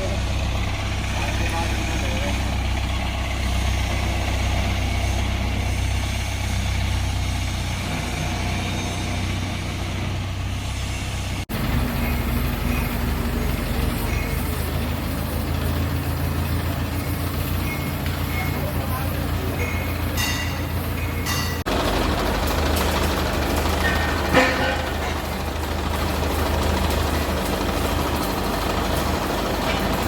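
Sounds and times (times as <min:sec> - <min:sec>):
wood chipper running: 0:00.0 - 0:30.0.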